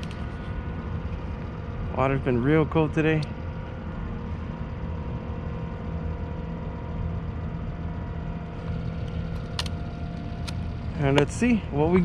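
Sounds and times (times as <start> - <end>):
faint hum: 0.0 - 12.0
low engine-like drone: 0.0 - 12.0.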